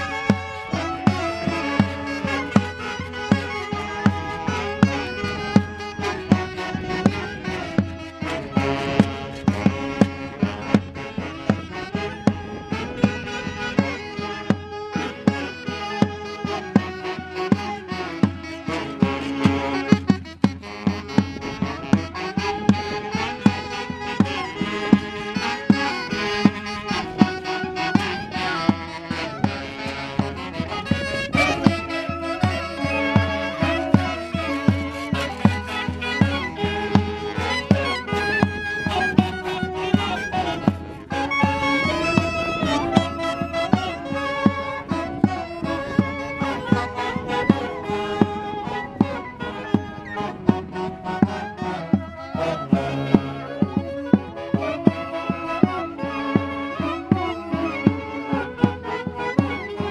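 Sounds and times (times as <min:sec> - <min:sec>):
live band dance music: 0:00.0 - 0:56.8
saxophones: 0:00.0 - 0:59.9.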